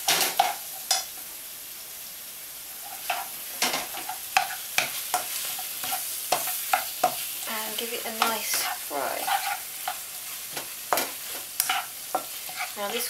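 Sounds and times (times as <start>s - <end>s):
food sizzling in a frying pan: 0.0s - 13.0s
spatula scraping a pan: 0.1s - 1.1s, 2.8s - 13.0s.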